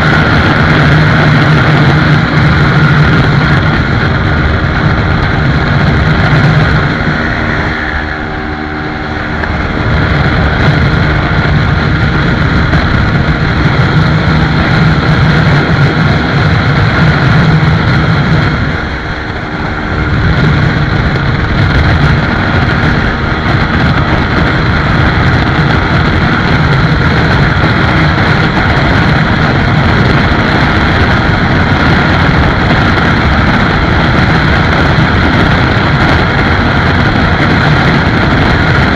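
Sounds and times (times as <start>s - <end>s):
heavy wind rush: 0.0s - 38.9s
motorcycle engine drone: 0.0s - 38.9s.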